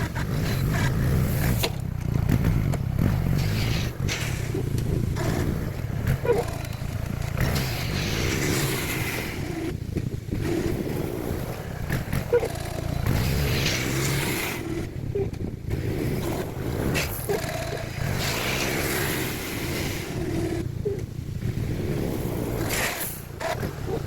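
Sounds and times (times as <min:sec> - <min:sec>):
atv engine running under load: 0:00.0 - 0:24.0.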